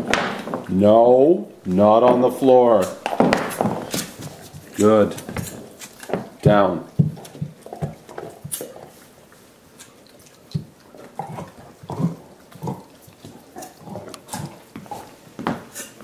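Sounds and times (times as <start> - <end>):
dogs slurping and chewing bones: 2.2 - 16.0.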